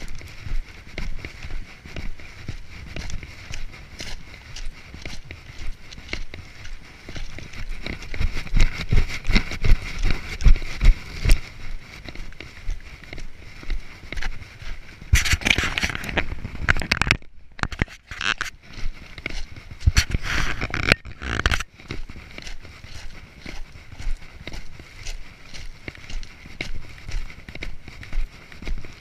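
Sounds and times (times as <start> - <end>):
footsteps on gravel: 0.0 - 29.0.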